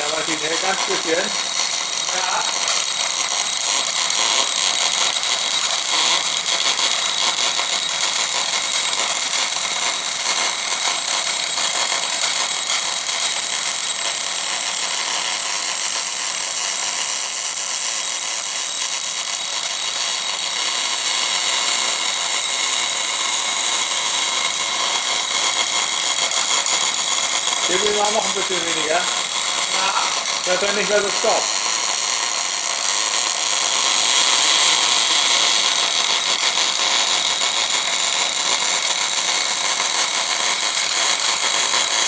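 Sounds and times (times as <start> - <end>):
welding arc crackling hiss: 0.0 - 42.0.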